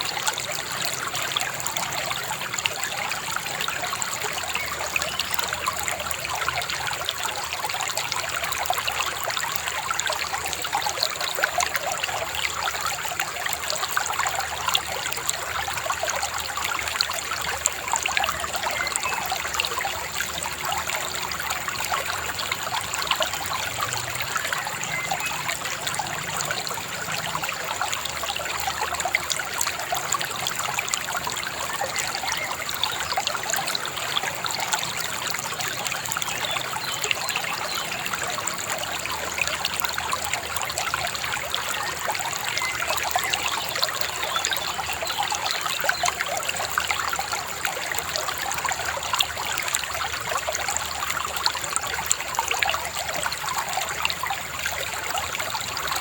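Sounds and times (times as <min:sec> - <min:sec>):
river babbling: 0:00.0 - 0:56.0.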